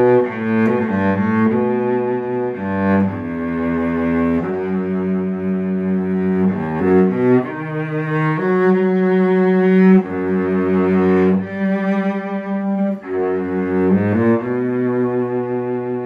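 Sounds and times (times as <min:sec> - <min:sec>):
cello played with bow: 0:00.0 - 0:16.0.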